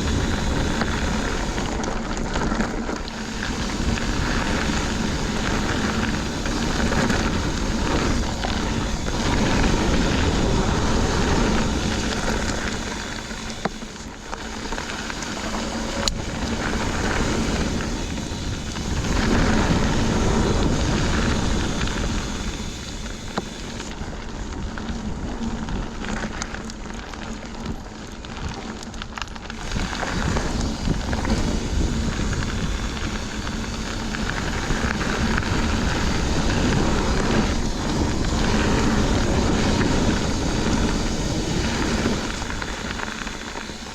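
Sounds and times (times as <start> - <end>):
wind rushing over microphone: 0.0 - 26.0, 29.6 - 43.9
bike tyres rolling on dirt: 0.0 - 43.9.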